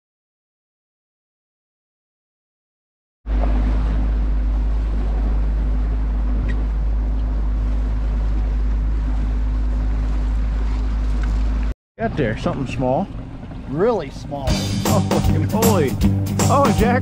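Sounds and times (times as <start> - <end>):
outboard motor running: 3.3 - 17.0.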